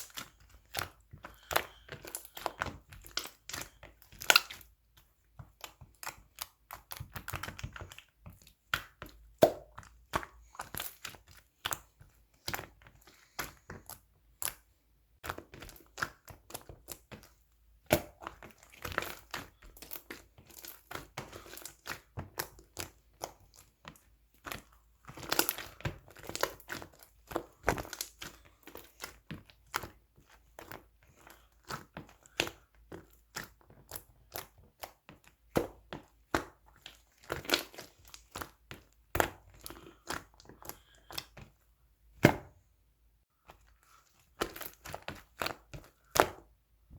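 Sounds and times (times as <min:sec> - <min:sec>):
slime squished by hand: 0:00.0 - 0:42.6, 0:43.4 - 0:46.6.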